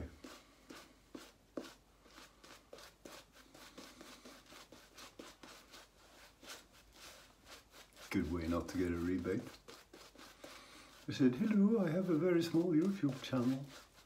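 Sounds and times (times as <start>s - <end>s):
shaving brush swishing: 0.0s - 14.0s.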